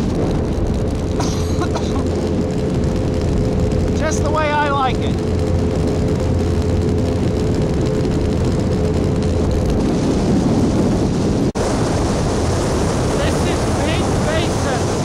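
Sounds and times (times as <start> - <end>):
motorboat engine running: 0.0 - 15.0
water noise: 0.0 - 15.0
wind: 0.0 - 15.0.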